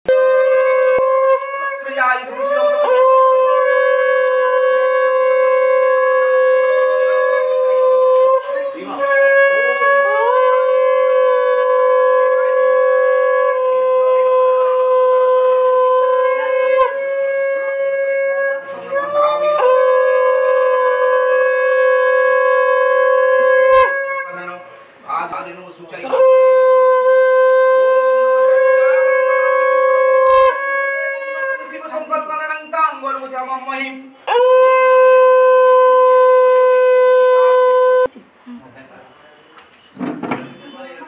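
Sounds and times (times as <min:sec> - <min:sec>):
conch shell blasts: 0:00.1 - 0:25.0, 0:26.0 - 0:32.5, 0:34.3 - 0:38.1.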